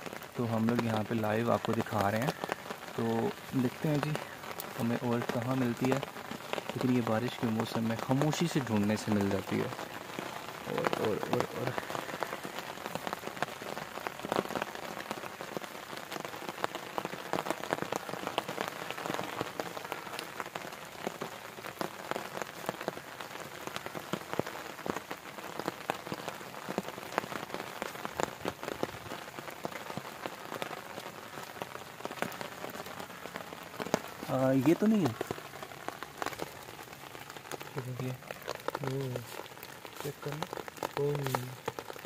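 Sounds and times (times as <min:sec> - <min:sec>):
steady rain: 0:00.0 - 0:42.0.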